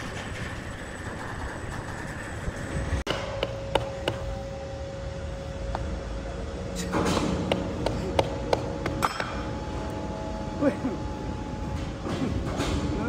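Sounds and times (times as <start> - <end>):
machinery rumble: 0.0 - 13.0.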